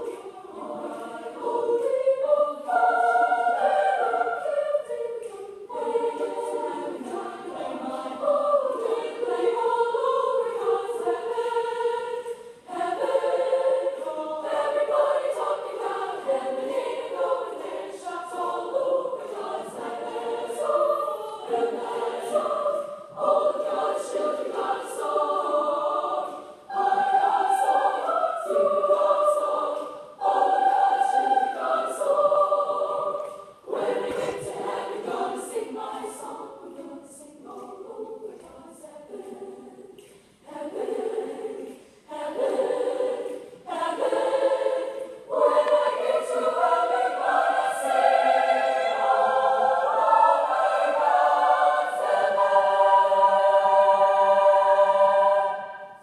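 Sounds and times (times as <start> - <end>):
women's choir singing in harmony: 0.0 - 56.0.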